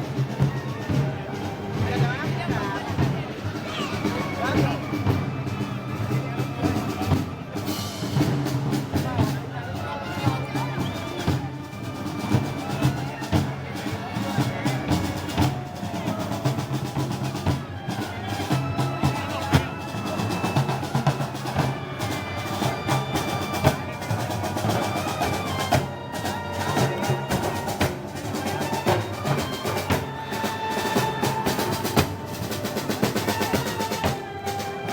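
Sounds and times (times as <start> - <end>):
snare drum rolls: 0.0 - 9.6, 10.2 - 34.9
wind instruments playing: 0.0 - 34.9.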